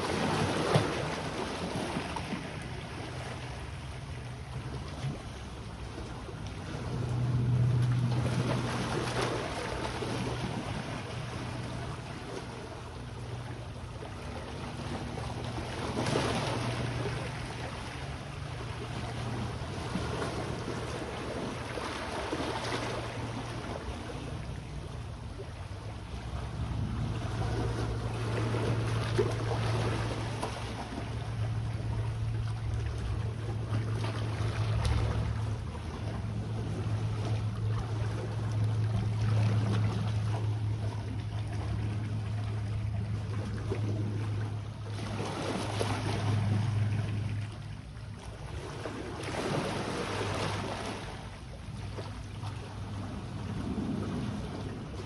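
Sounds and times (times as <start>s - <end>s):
small waves washing on shore: 0.0s - 55.0s
steady low drone: 2.6s - 21.6s, 22.8s - 49.1s.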